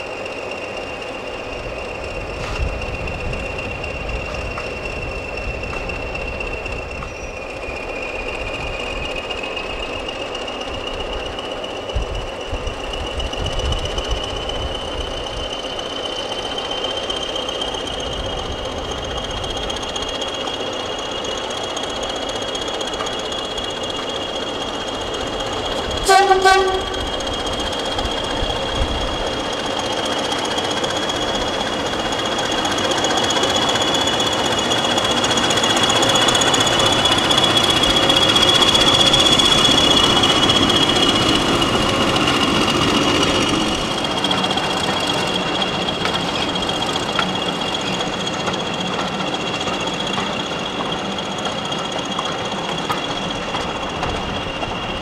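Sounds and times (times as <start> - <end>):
diesel train passing: 0.0 - 55.0
wheels squealing: 0.0 - 55.0.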